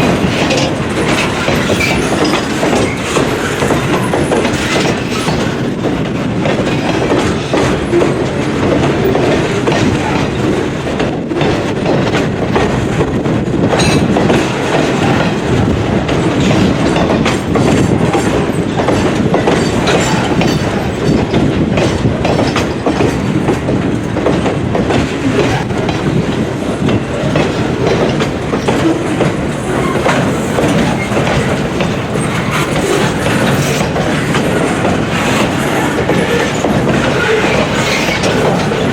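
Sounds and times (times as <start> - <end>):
freight train rumbling past: 0.0 - 38.9
wheels clicking over rail joints: 0.0 - 38.9.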